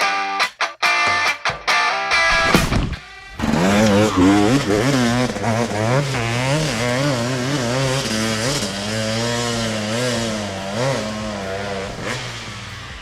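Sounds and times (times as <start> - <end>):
motocross engine revving: 2.3 - 13.0.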